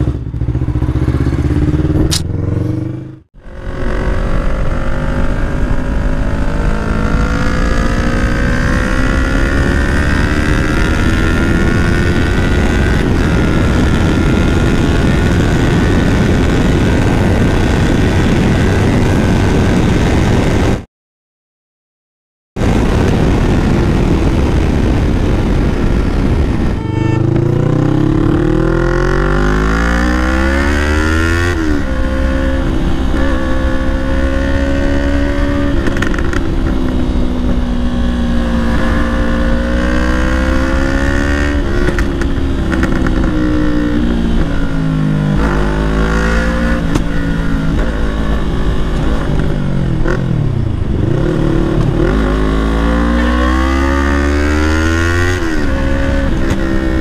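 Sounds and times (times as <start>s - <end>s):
motorcycle engine revving: 0.0s - 20.8s, 22.6s - 57.0s.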